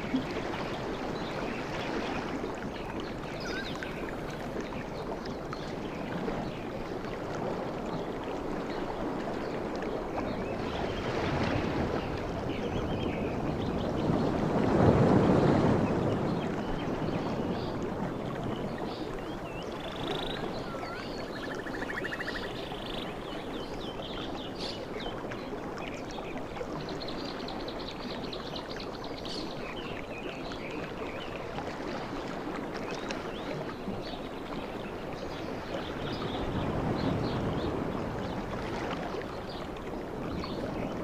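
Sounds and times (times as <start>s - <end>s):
sea waves washing on shore: 0.0s - 41.0s.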